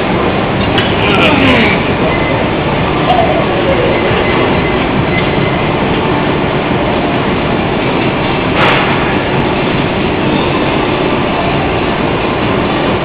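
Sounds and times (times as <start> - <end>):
loud steady rumbling: 0.0 - 13.0.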